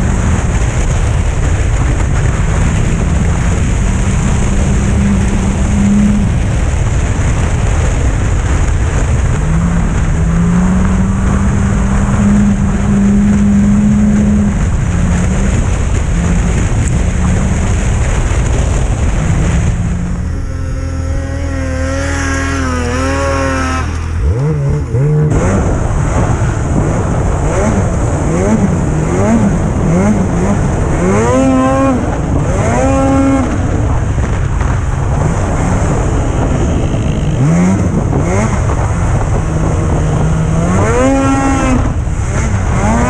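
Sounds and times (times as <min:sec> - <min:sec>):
snowmobile engine revving: 0:00.0 - 0:43.0
track and wind rush: 0:00.0 - 0:43.0.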